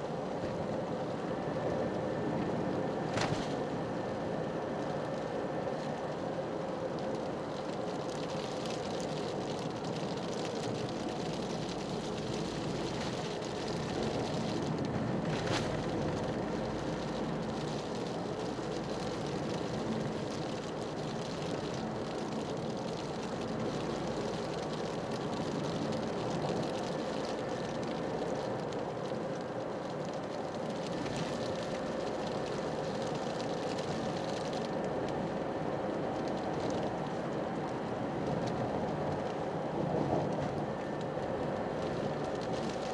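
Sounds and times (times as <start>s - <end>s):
tyre and road noise: 0.0s - 42.9s.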